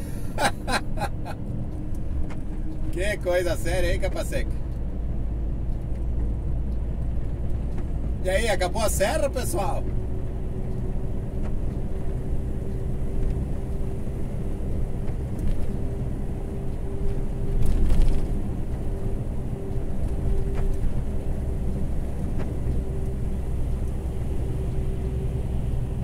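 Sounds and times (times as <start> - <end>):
constant hum: 0.0 - 26.0
truck engine and road rumble: 0.0 - 26.0.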